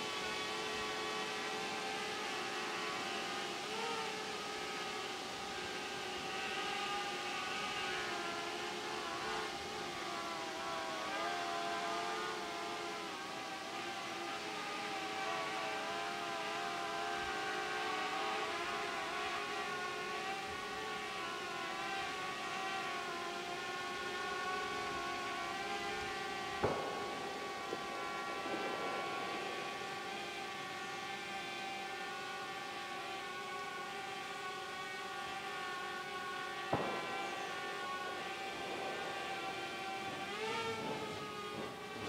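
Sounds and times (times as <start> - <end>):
drone propellers humming: 0.0 - 42.0.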